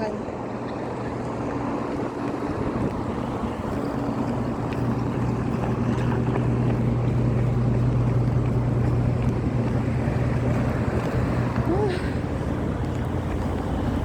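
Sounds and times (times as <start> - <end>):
low mechanical hum: 0.0 - 14.0
strong wind on microphone: 0.0 - 14.0.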